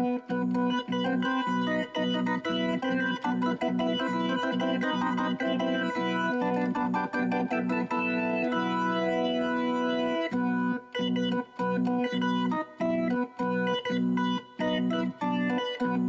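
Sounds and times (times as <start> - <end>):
organ-like keyboard chords: 0.0 - 16.0.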